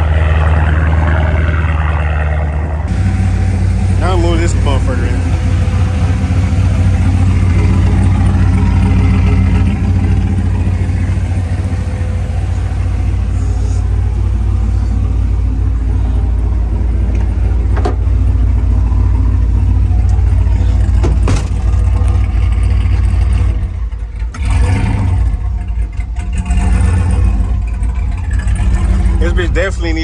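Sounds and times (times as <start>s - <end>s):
truck engine low rumble: 0.0s - 30.0s.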